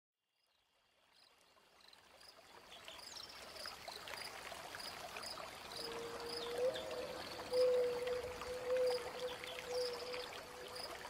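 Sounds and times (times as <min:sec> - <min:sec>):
running stream: 0:00.4 - 0:11.0.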